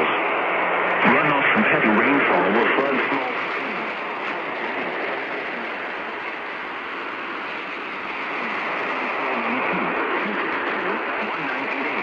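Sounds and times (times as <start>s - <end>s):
radio static hiss: 0.0s - 12.0s
faint speech over radio: 1.0s - 6.8s, 7.4s - 12.0s.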